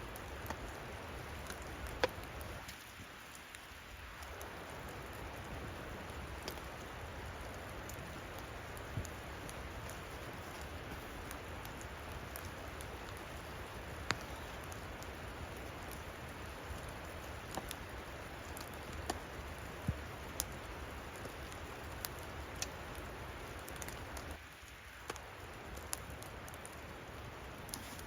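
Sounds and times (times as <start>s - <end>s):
rain patter: 0.0s - 28.0s.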